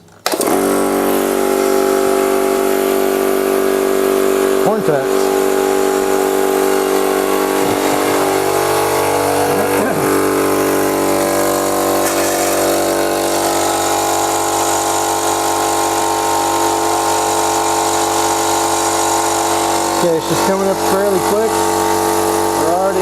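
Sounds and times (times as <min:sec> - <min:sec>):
air compressor running: 0:00.1 - 0:23.0.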